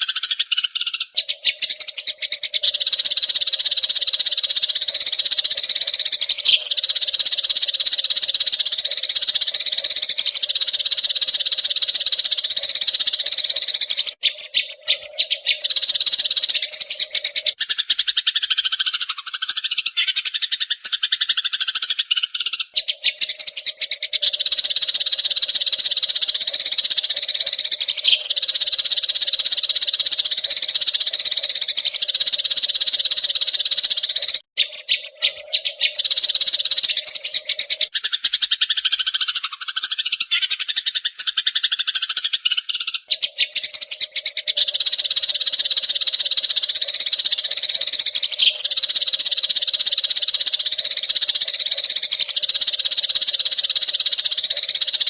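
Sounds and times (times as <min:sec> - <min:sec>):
sparrows chirping and chattering: 0:00.0 - 0:55.0.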